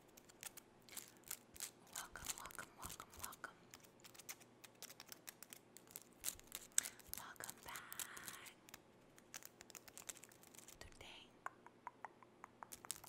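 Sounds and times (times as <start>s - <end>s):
nails scratching through hair: 0.0s - 11.0s.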